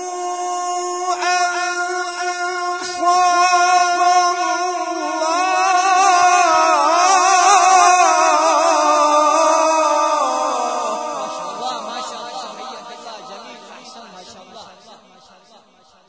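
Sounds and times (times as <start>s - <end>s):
man reciting melodically: 0.0s - 15.5s.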